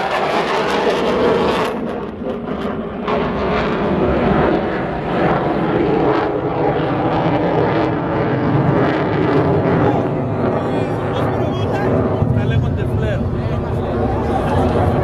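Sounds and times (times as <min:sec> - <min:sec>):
aircraft engine running: 0:00.0 - 0:15.0.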